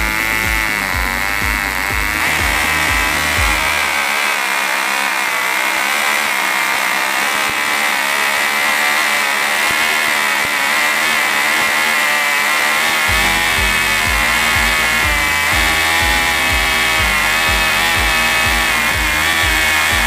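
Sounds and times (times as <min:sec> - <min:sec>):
small engines screaming: 0:00.0 - 0:20.0.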